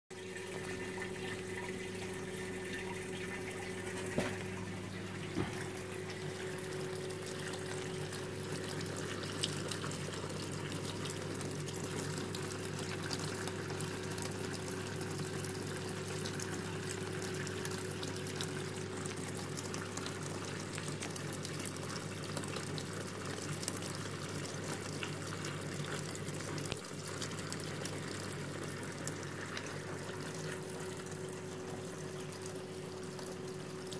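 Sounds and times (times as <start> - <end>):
fluid pouring and trickling: 0.1 - 33.9
pump humming: 0.1 - 33.9.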